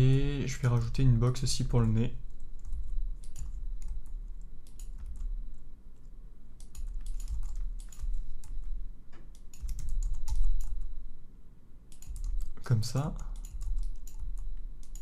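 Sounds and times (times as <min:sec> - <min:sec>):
low hum: 0:00.0 - 0:15.0
keyboard keys clicking: 0:01.6 - 0:10.9, 0:11.9 - 0:15.0.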